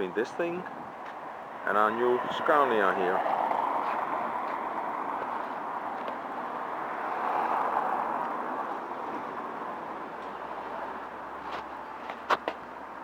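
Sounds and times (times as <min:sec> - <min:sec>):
street traffic noise: 0:00.0 - 0:13.0
vehicle passing: 0:01.3 - 0:13.0.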